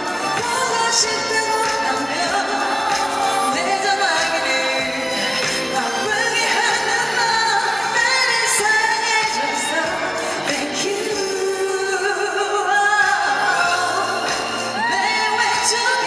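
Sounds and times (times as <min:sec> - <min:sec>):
backing band track: 0:00.0 - 0:16.0
woman singing pop song: 0:00.0 - 0:16.0.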